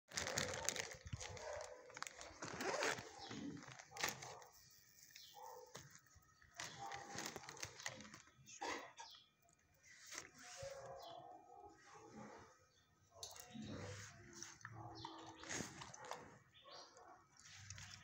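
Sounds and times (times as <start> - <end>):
dog sounds: 0.1 - 9.1, 10.1 - 18.0.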